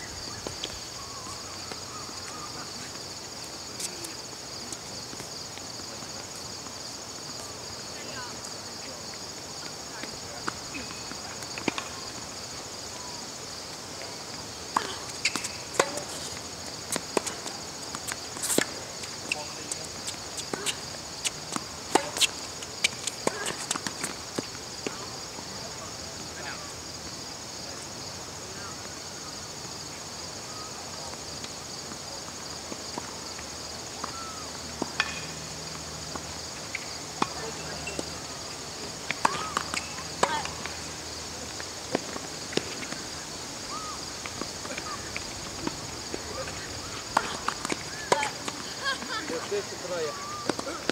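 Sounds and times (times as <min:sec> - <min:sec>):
insects buzzing: 0:00.0 - 0:50.9.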